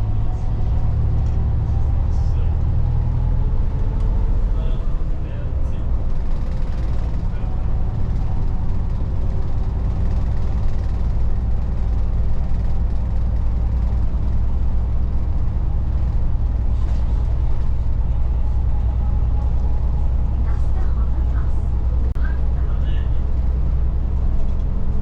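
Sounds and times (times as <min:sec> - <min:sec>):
bus engine low drone: 0:00.0 - 0:25.0.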